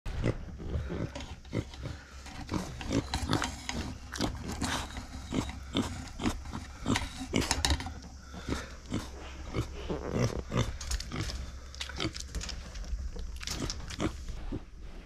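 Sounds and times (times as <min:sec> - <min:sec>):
pig chewing: 0:00.2 - 0:14.6.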